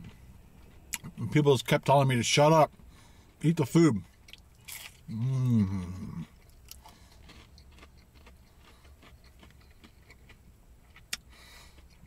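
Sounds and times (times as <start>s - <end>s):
person chewing quietly: 0.0s - 1.3s, 2.7s - 12.0s
low steady hum: 0.0s - 12.0s.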